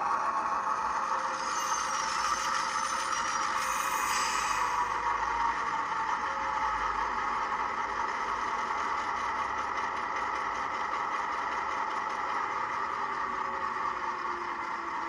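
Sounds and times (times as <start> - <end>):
model diesel locomotive idling: 0.2 - 15.0.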